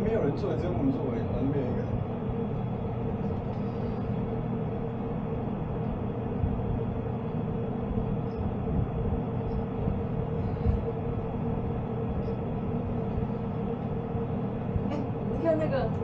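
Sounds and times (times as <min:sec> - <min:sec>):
constant mid-pitched tone: 0:00.0 - 0:16.0
mechanical hum and rumble: 0:00.0 - 0:16.0.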